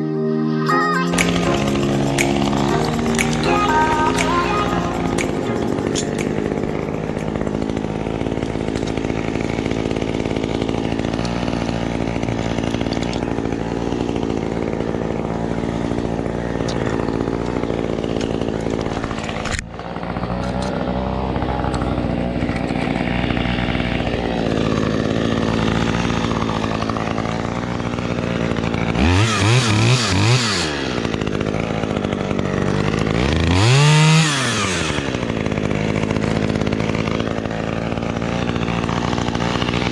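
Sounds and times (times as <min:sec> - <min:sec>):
chainsaw running at high speed: 0:01.1 - 0:39.9.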